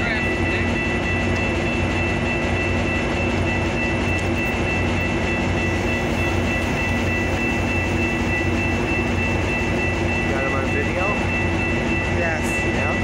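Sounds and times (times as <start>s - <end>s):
diesel locomotive engine droning: 0.0s - 13.0s
high whine: 0.0s - 13.0s.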